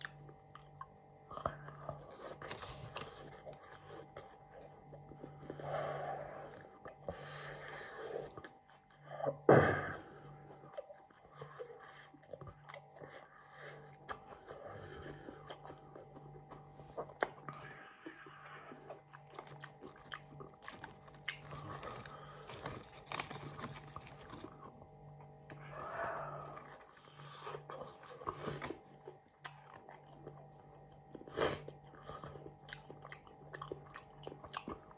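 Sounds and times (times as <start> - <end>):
chewing and crunching food: 0.0 - 34.9
faint hum: 0.0 - 34.9.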